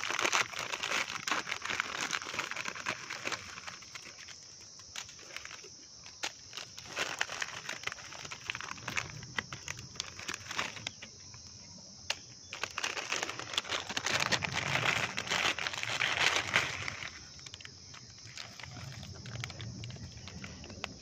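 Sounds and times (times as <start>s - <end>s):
plastic packet crinkling: 0.0s - 11.1s, 12.1s - 21.0s
high insect drone: 0.0s - 21.0s.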